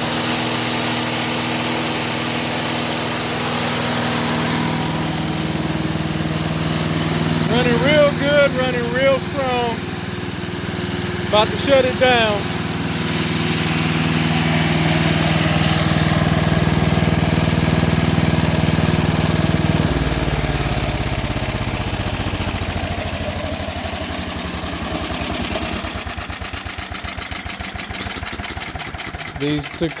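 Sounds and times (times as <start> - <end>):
wood chipper engine running: 0.0 - 30.0.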